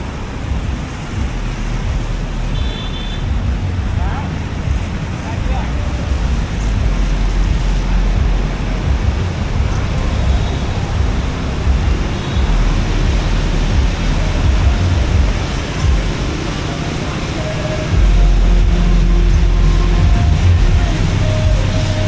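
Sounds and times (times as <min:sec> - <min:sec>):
steady outdoor hiss: 0:00.0 - 0:22.0
wind buffeting microphone: 0:00.0 - 0:22.0.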